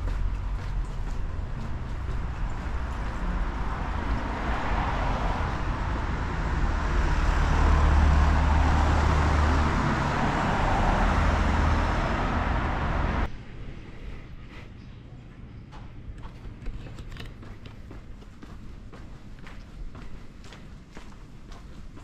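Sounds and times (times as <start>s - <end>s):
road noise: 0.0s - 14.8s, 15.8s - 22.0s
vehicle engine rumble: 0.0s - 22.0s.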